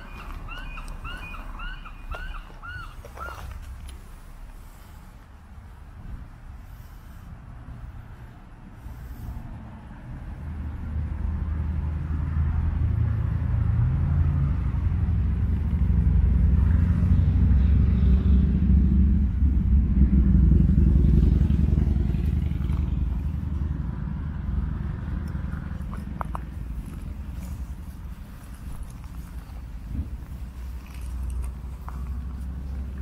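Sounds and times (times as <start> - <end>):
low engine rumble passing by: 0.0 - 33.0.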